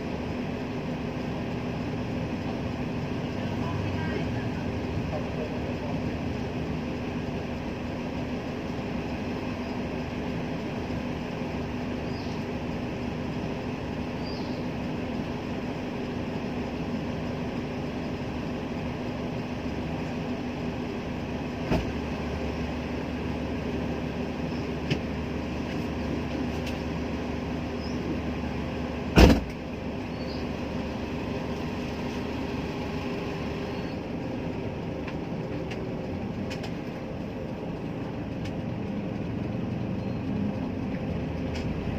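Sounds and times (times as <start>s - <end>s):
vehicle engine and road drone: 0.0s - 41.9s.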